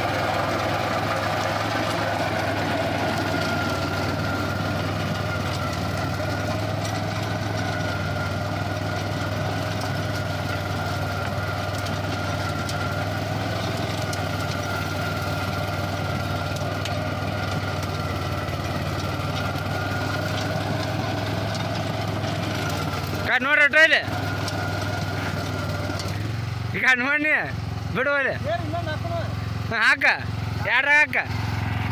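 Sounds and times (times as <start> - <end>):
rotary tiller high whine: 0.0 - 31.9
tractor diesel engine droning: 0.0 - 31.9.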